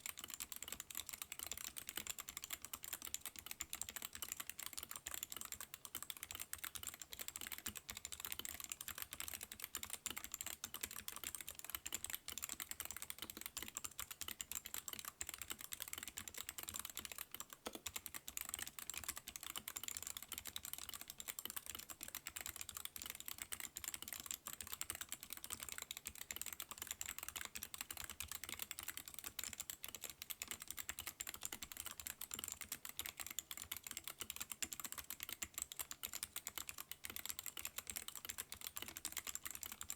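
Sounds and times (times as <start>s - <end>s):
typing on a mechanical keyboard: 0.0s - 39.9s.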